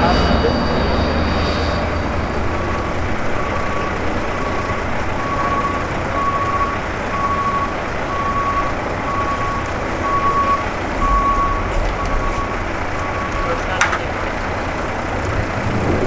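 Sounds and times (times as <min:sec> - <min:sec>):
reversing alarm beeping: 0:00.0 - 0:14.8
jet engines running: 0:00.0 - 0:16.0.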